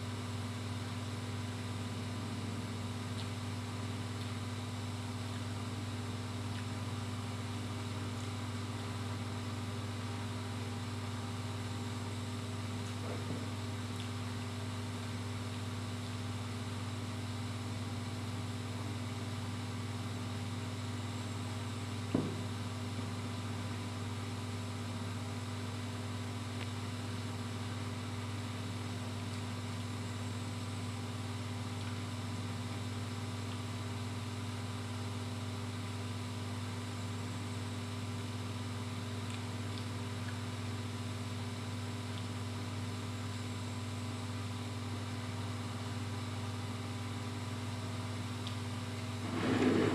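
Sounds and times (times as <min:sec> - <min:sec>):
steady low hum with tones: 0:00.0 - 0:49.9.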